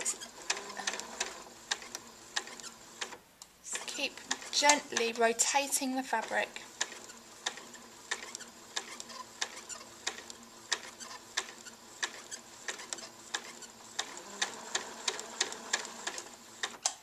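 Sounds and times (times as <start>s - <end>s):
sewing machine needle clicks: 0.0s - 3.2s, 3.8s - 5.2s, 6.2s - 17.0s
faint motor whine: 0.0s - 17.0s.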